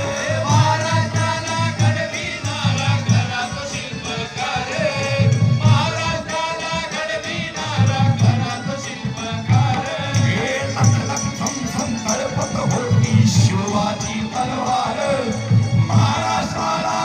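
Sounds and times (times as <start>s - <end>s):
folk ballad singing over loudspeaker: 0.0s - 17.0s
jingling percussion: 0.0s - 17.0s.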